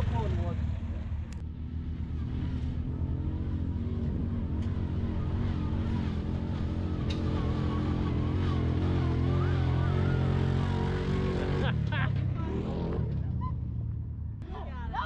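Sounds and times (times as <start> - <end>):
utility vehicle engine climbing hill: 0.0 - 15.0.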